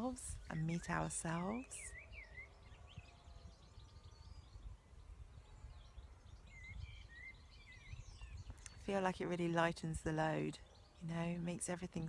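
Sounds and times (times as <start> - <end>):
low wind rumble: 0.0 - 12.0
small birds singing: 0.0 - 12.0.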